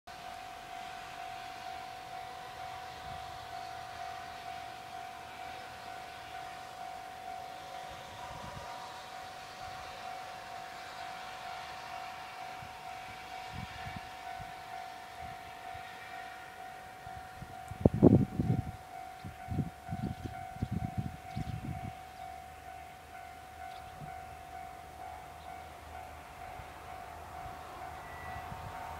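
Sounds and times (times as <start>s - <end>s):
level crossing warning bell: 0.1s - 28.9s.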